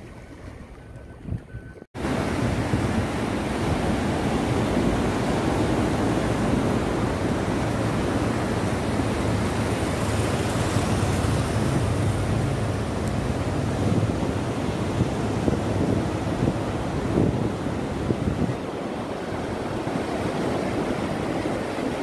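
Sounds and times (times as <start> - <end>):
ocean surf breaking on beach: 2.0 - 22.0.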